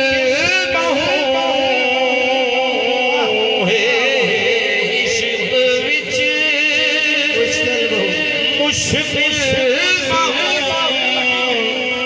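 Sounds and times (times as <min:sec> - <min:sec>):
devotional music: 0:00.0 - 0:12.0.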